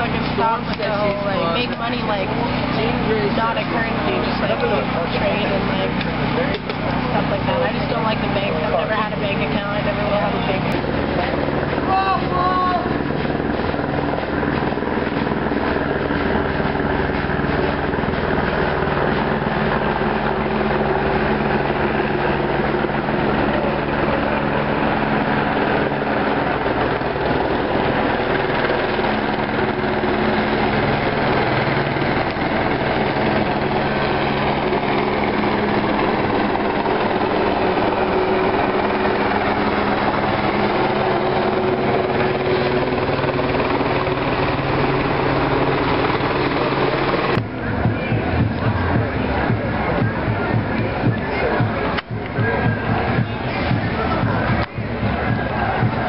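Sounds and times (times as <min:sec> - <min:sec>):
helicopter flying overhead: 0:00.0 - 0:56.0.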